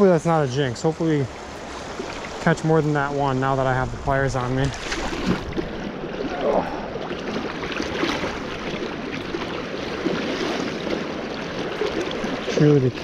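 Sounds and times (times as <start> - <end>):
river water splashing around legs: 0.0 - 13.0.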